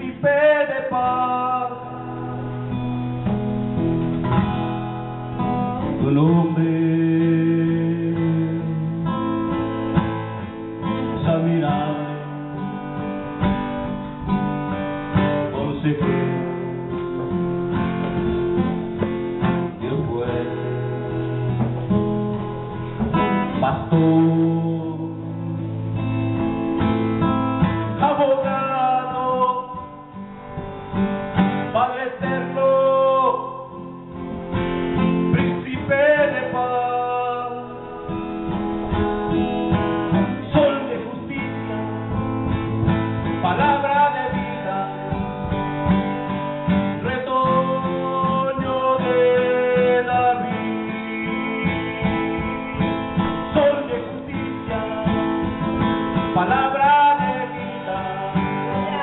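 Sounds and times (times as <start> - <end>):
acoustic guitar playing slow song: 0.0 - 59.0.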